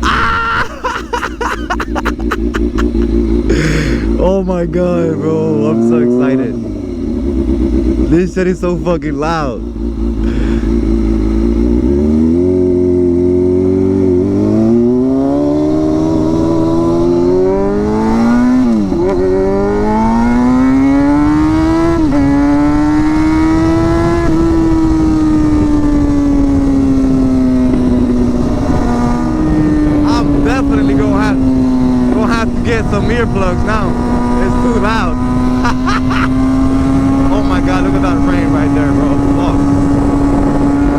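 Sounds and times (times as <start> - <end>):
motorcycle accelerating hard: 0.0 - 40.9.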